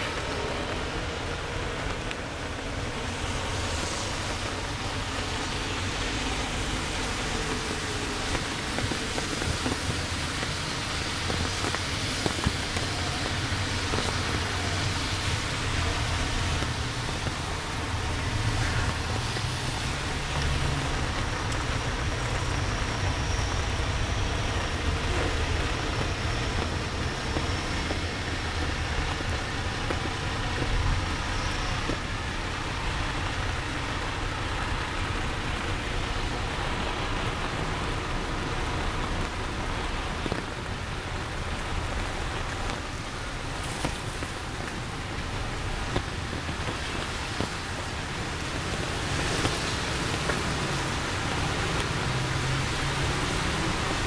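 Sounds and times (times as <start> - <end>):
heavy rain hiss: 0.0 - 54.0
traffic rumble: 0.0 - 54.0
wet tyres hissing: 0.0 - 54.0.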